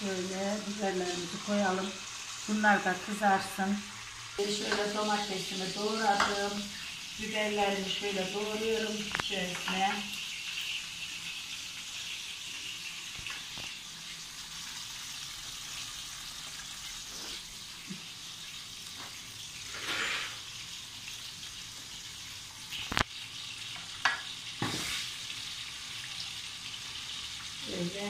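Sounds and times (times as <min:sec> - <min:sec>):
peppers sizzling in a pan: 0:00.0 - 0:28.0.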